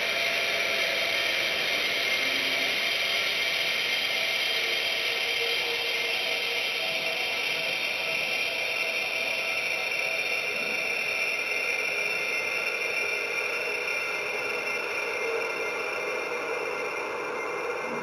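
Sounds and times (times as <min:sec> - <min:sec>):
faint steady tones: 0:00.0 - 0:18.0.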